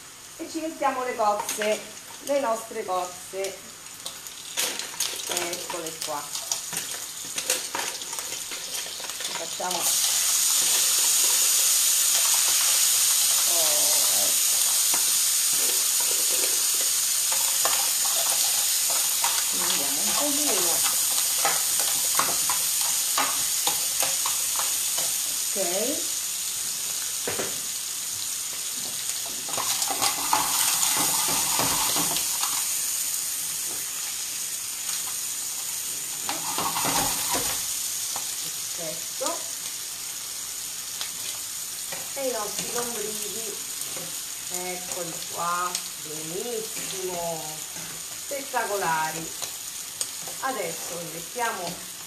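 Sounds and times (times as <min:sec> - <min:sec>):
mussels sizzling in a pan: 0:00.0 - 0:52.0.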